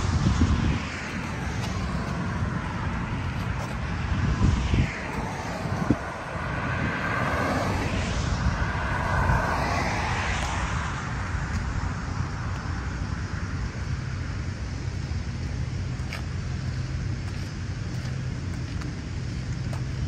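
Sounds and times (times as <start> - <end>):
cars passing: 0.0 - 20.0
low traffic rumble: 0.0 - 20.0.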